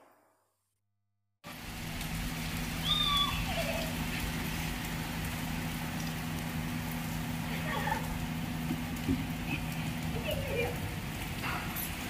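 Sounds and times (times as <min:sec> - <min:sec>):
low hum: 0:01.5 - 0:12.0
steady rain falling: 0:01.5 - 0:12.0.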